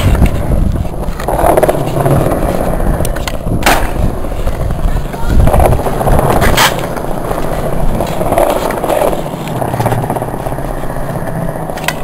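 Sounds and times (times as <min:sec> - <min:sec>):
skateboard clack: 0:00.0 - 0:12.0
skateboard wheels rolling on concrete: 0:00.0 - 0:12.0.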